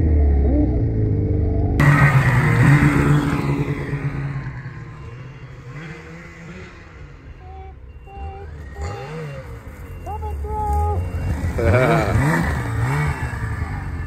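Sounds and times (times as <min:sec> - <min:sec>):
snowmobile engine close by: 0:00.0 - 0:14.0
snowmobile engine revving: 0:00.0 - 0:14.0.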